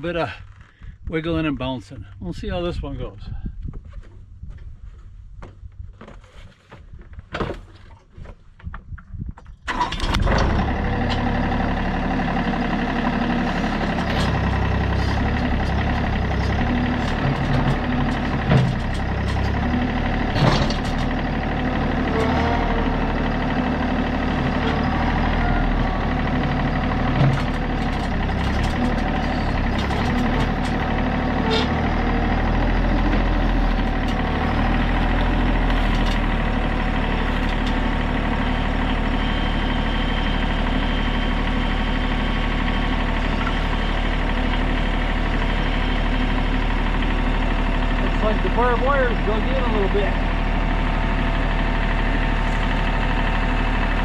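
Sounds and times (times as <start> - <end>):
tractor engine running: 9.0 - 54.0.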